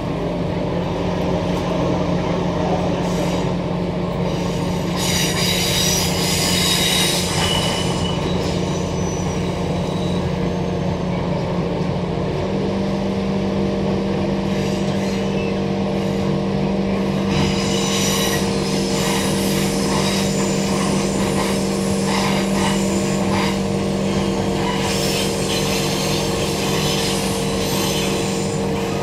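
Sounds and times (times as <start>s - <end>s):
train running gear hum: 0.0s - 29.0s
wheels squealing on rails: 1.4s - 12.2s, 12.9s - 29.0s.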